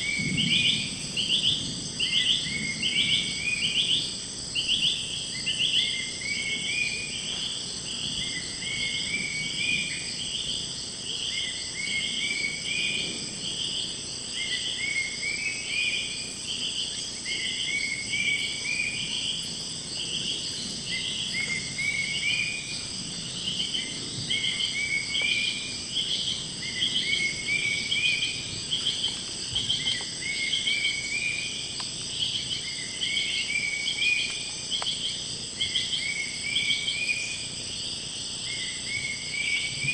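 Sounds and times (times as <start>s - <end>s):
insect chorus drone: 0.0s - 39.9s
pulsing insect chirp: 0.0s - 39.9s.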